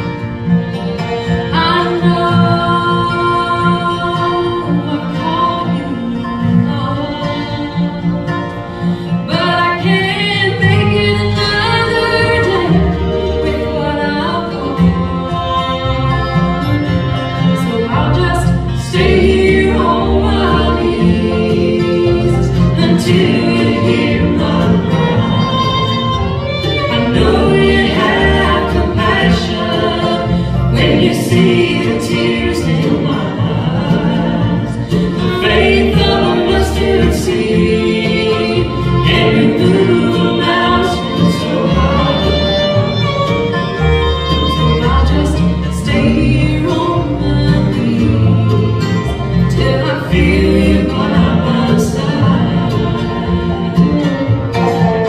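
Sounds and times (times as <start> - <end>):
acoustic bluegrass band playing: 0.0 - 55.0
people singing: 1.0 - 55.0.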